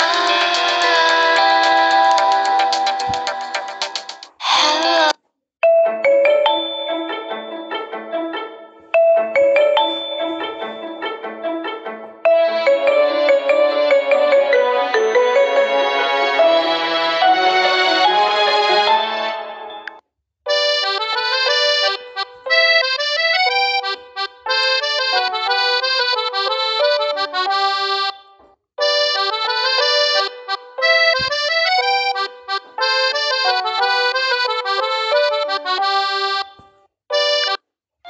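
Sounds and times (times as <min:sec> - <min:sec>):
instrumental ringtone melody: 0:00.0 - 0:04.3, 0:05.6 - 0:11.3, 0:12.2 - 0:28.2, 0:28.8 - 0:37.6.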